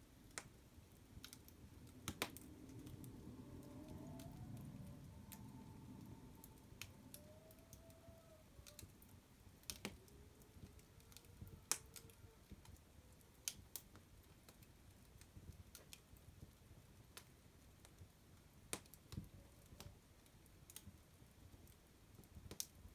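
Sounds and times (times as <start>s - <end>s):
fire crackling and popping: 0.0s - 22.9s.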